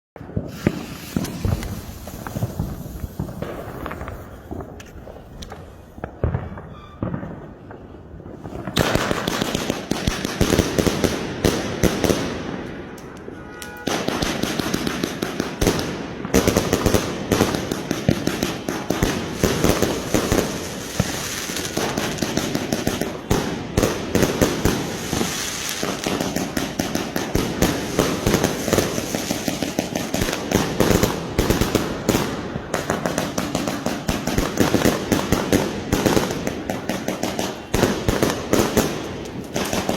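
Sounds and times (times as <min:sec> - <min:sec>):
firecrackers crackling: 0:00.2 - 0:39.9
loud firework bangs: 0:00.2 - 0:39.9.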